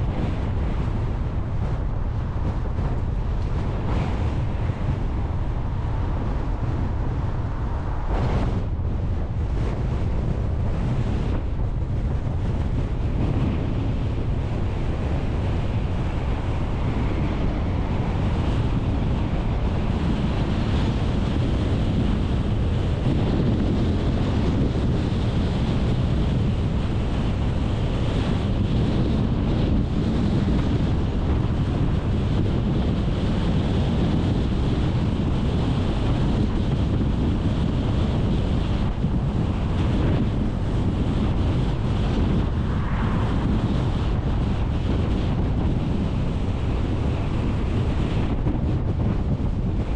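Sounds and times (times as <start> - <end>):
car road noise rumble: 0.0 - 49.9
wind buffeting microphone: 0.0 - 49.9.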